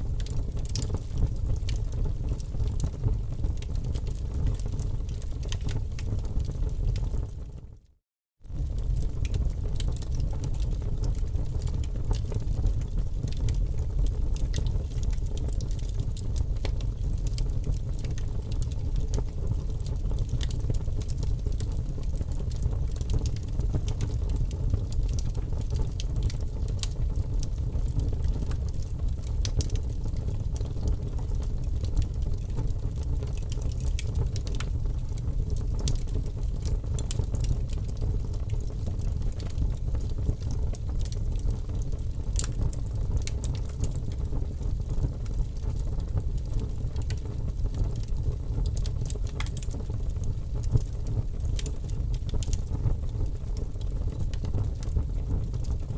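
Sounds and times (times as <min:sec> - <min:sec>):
burning wood crackling and popping: 0:00.0 - 0:07.3, 0:08.5 - 0:55.9
low rumble of flames: 0:00.0 - 0:55.9.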